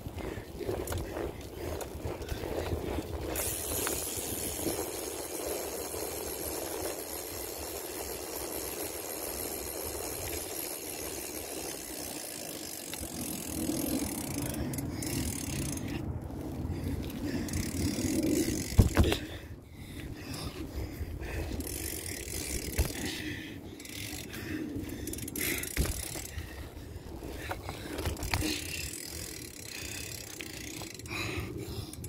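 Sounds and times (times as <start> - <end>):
freewheel clicking: 0.0 - 19.3, 21.4 - 32.0
bicycle rolling on pavement: 0.0 - 32.0.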